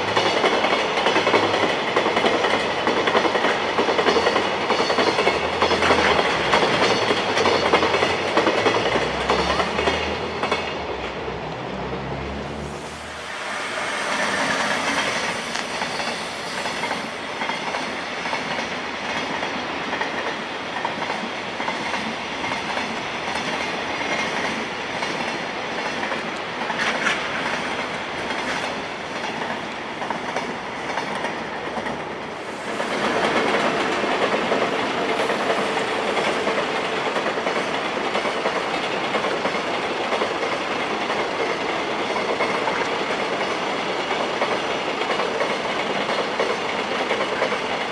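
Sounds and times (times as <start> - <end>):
train wheels clattering over rails: 0.0 - 47.9.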